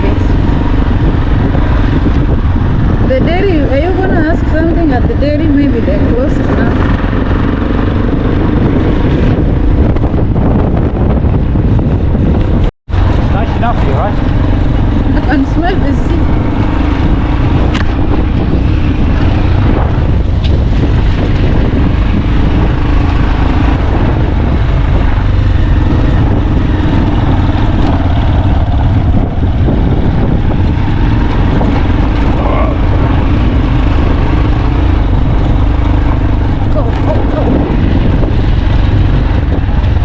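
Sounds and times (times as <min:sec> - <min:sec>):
road and wind noise: 0:00.0 - 0:40.0
vehicle engine running: 0:00.0 - 0:40.0.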